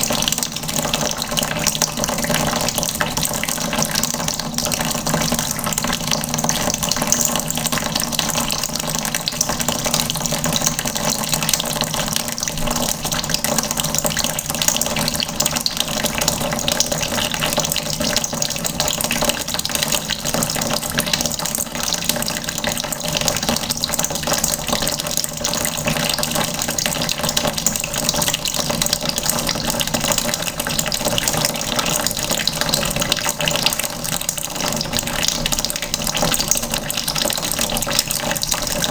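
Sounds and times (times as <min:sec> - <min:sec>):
tap water running into bucket: 0:00.0 - 0:38.9.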